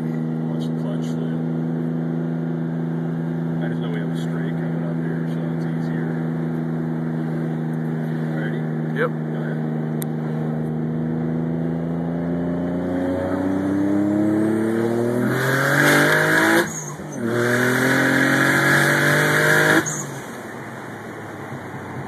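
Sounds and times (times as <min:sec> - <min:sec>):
car engine revving hard: 0:00.3 - 0:20.4.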